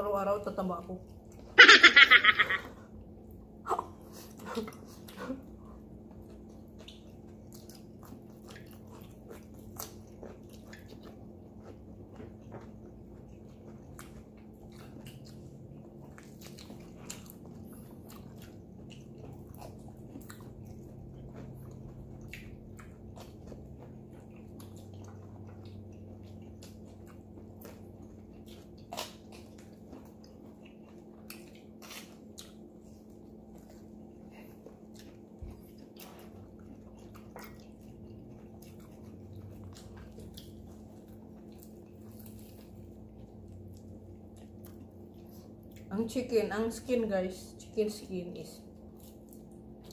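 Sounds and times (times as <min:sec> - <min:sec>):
steady low hum: 0:00.0 - 0:49.9
chewing and biting: 0:02.2 - 0:45.9, 0:48.6 - 0:49.9.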